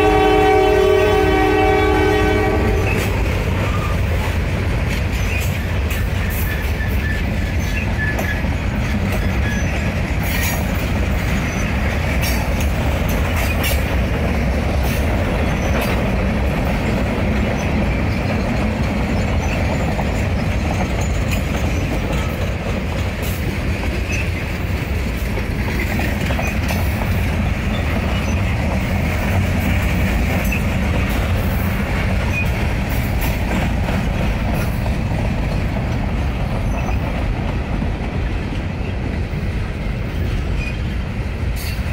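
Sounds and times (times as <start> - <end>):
train cars rumbling past: 0.0 - 41.9
wheels clicking over rail joints: 0.0 - 41.9.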